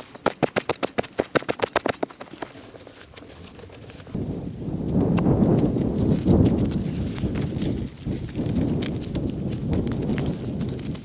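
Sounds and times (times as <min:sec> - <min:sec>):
digging in earth: 0:00.0 - 0:11.0.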